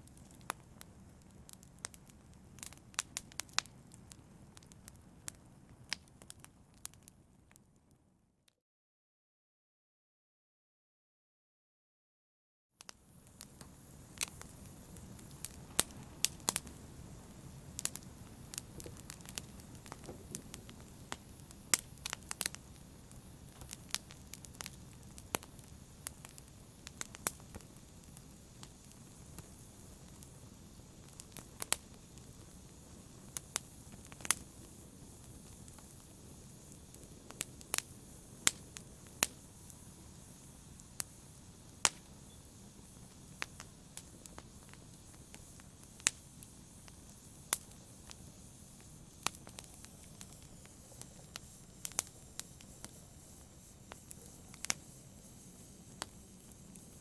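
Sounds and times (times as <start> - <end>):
wood fire crackles and pops: 0.0 - 8.0, 12.8 - 57.0.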